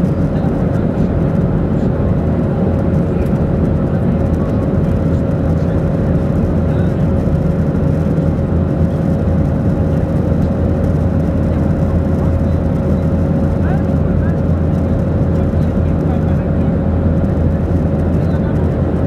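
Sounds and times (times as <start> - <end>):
airplane cabin noise: 0.0 - 19.0.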